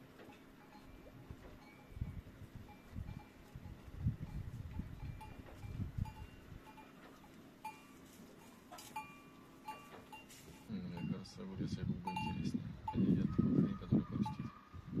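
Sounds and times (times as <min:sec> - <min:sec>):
goat bell clanking: 0:00.0 - 0:13.3.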